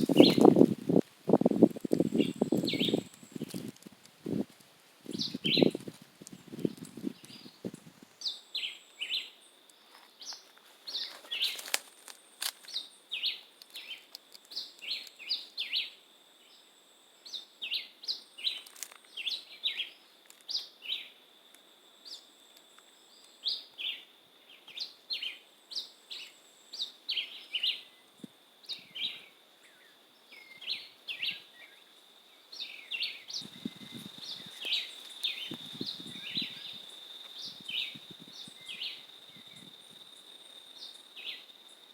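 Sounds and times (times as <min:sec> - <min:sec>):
vireo chirping song: 0:00.0 - 0:00.7, 0:02.0 - 0:03.7, 0:05.1 - 0:21.2, 0:21.9 - 0:41.9
high insect drone: 0:00.0 - 0:41.9.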